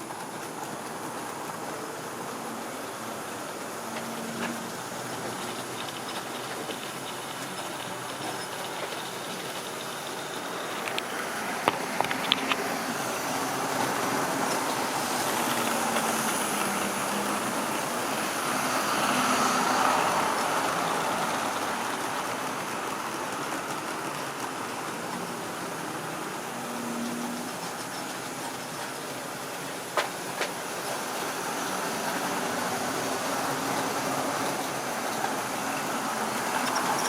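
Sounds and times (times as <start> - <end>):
model train motor whirr: 0.0 - 37.0.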